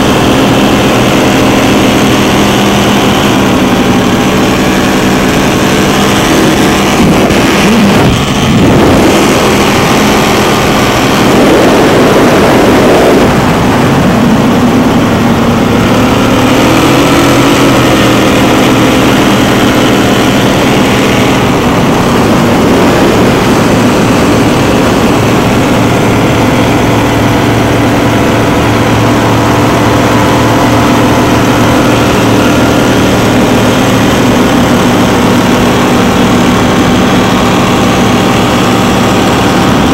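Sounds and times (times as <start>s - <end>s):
powerboat engines running hard: 0.0s - 39.9s
rushing water: 0.0s - 39.9s.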